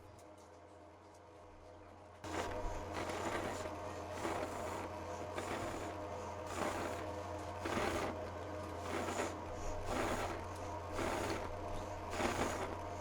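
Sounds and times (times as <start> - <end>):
mechanical rasping strokes: 2.3 - 13.0.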